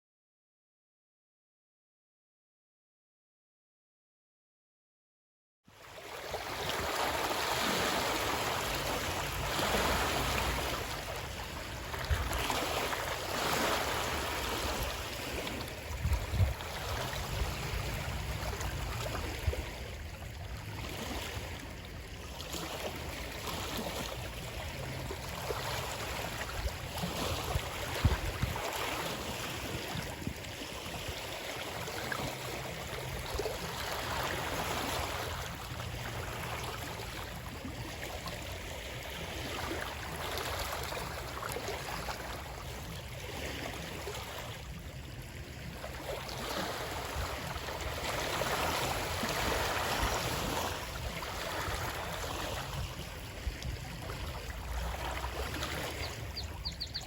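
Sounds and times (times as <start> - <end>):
water rushing and splashing: 5.8 - 57.0.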